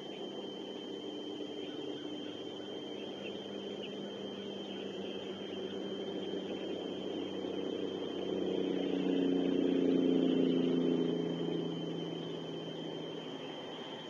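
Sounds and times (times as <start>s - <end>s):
faint high whine: 0.0s - 14.0s
distant vehicle engine hum: 1.6s - 14.0s.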